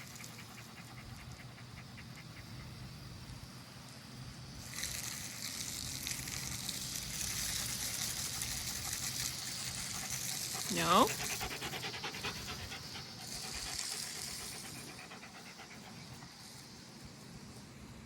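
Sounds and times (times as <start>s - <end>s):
garden hose spraying water: 0.0s - 18.0s.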